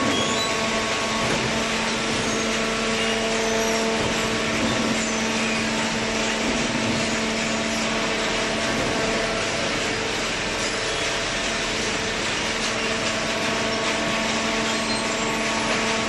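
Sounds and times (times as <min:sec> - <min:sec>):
baler motor and pump hum: 0:00.0 - 0:16.0.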